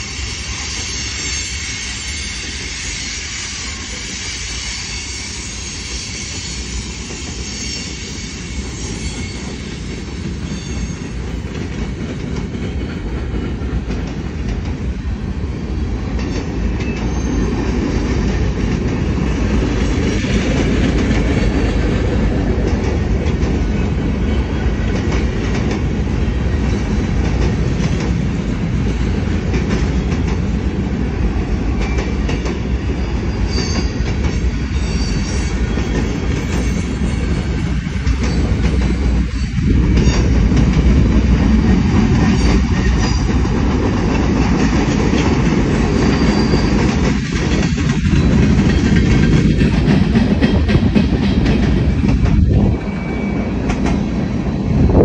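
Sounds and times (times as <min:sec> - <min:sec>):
freight train wheels rumbling on rail: 0:00.0 - 0:55.0
rail joints clicking: 0:09.4 - 0:55.0.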